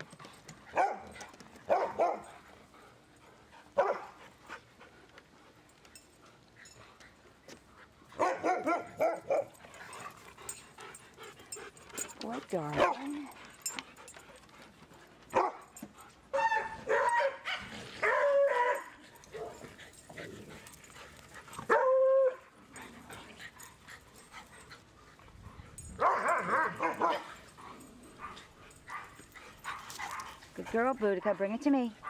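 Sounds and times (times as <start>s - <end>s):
dogs barking and yelping: 0.0s - 31.3s.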